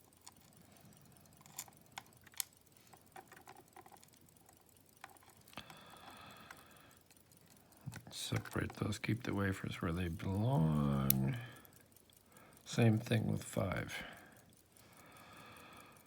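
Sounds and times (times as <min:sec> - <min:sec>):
tweezers and small pins clicking: 0:00.0 - 0:16.0.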